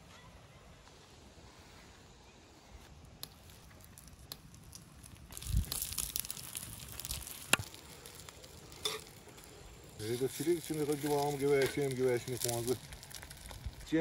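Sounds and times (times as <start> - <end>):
fat sizzling on hot stone: 2.7 - 14.0.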